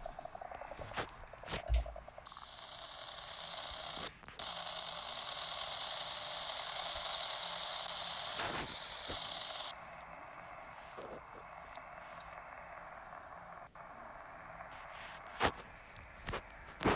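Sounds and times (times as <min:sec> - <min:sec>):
shortwave radio static: 0:00.0 - 0:16.9.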